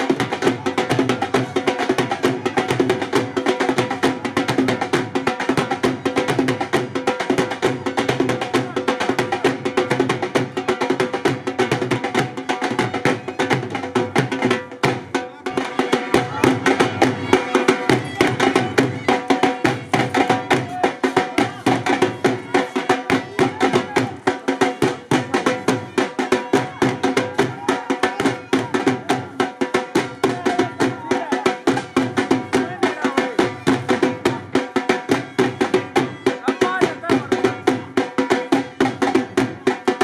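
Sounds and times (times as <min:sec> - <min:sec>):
fast drum rhythm: 0:00.0 - 0:40.0.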